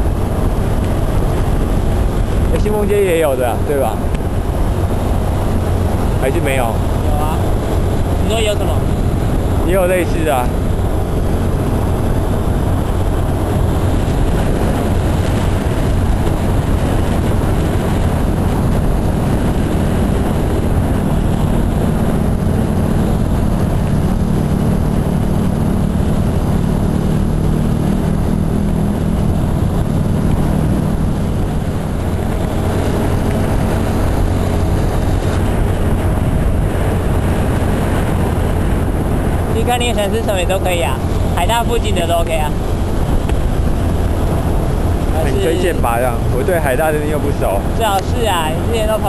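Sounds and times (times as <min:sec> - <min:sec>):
motorcycle engine and road noise: 0:00.0 - 0:49.0
wind rush on microphone: 0:00.0 - 0:49.0.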